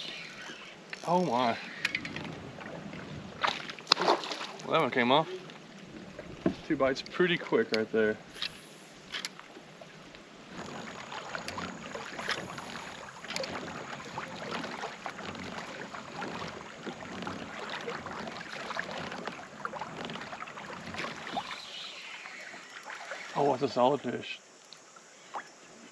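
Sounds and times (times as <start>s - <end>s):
water lapping against kayak hull: 0.0s - 25.9s.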